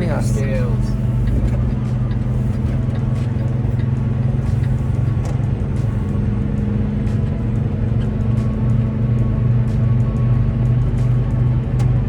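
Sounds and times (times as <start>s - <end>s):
road noise inside cab: 0.0s - 12.0s
truck diesel engine drone: 0.0s - 12.0s.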